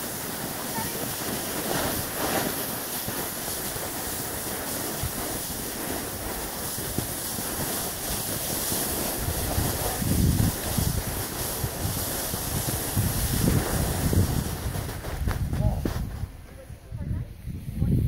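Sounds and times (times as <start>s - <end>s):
snowboard sliding over snow: 0.0s - 18.0s
wind on microphone: 0.0s - 18.0s.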